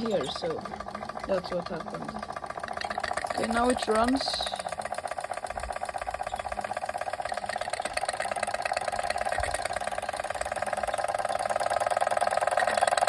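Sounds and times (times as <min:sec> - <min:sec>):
model steam engine running: 0:00.0 - 0:13.0.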